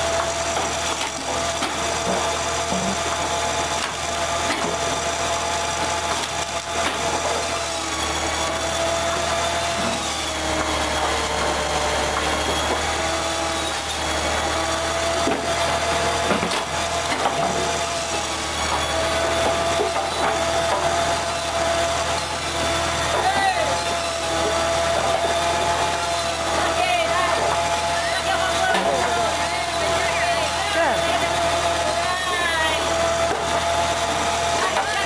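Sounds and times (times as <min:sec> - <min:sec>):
saw machine cutting logs: 0:00.0 - 0:35.0.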